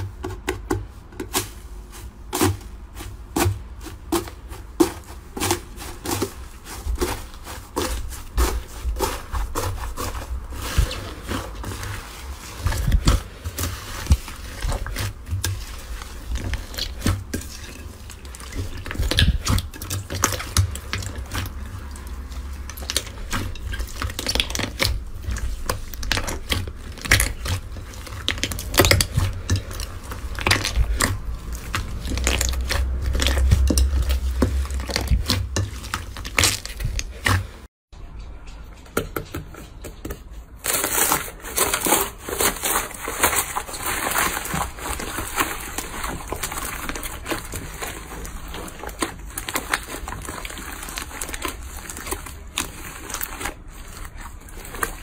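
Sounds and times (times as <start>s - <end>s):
slime crackling and popping: 7.0s - 37.5s, 40.7s - 55.0s.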